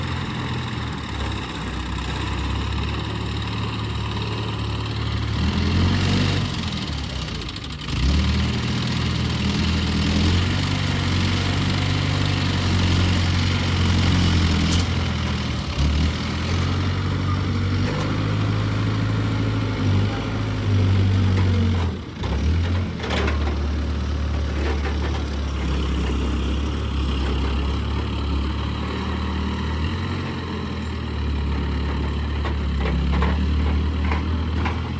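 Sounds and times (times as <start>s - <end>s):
heavy diesel crane engine revving: 0.0s - 34.9s.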